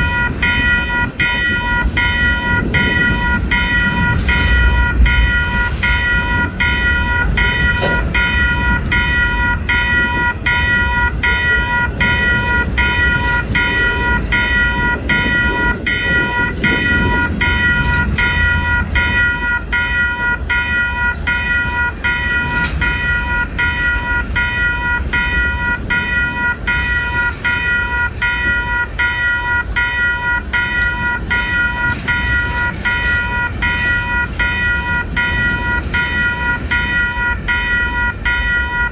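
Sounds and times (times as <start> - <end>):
crossing warning bell ringing: 0.0 - 38.9
freight train rumbling past: 0.0 - 38.9.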